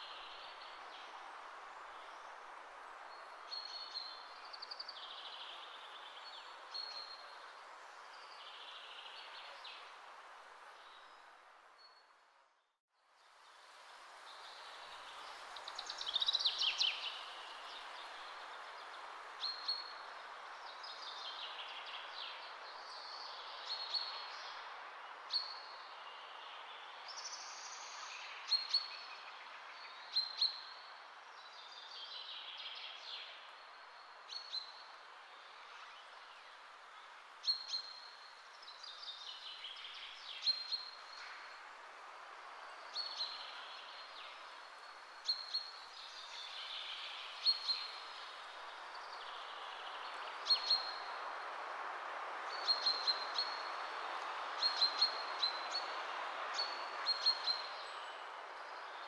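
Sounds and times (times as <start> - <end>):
steady background hiss: 0.0 - 12.4, 13.2 - 59.0.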